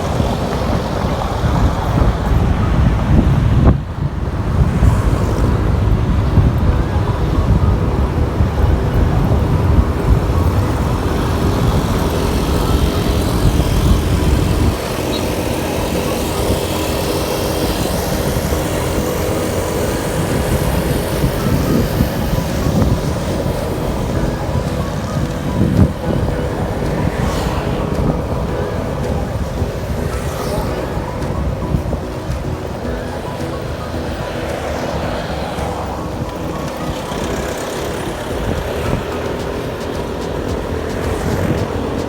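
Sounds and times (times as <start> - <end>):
wind noise: 0.0 - 42.0.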